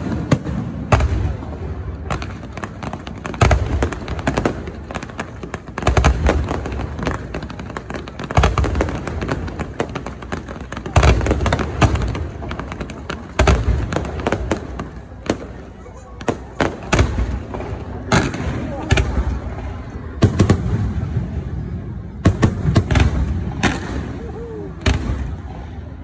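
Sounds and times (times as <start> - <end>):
fireworks booming: 0.0 - 26.0
fireworks crackling and popping: 0.0 - 26.0.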